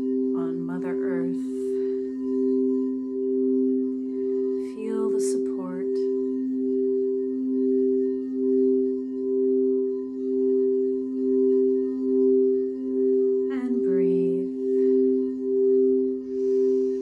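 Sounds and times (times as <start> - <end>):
crystal singing bowls ringing: 0.0 - 17.0.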